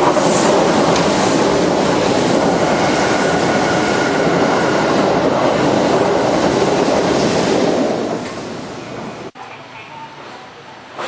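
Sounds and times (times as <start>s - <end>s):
train wheels rushing on rails: 0.0s - 9.4s.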